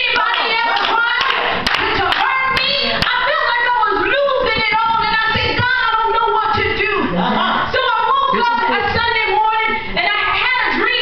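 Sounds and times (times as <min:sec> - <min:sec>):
woman preaching into microphone: 0:00.0 - 0:11.0.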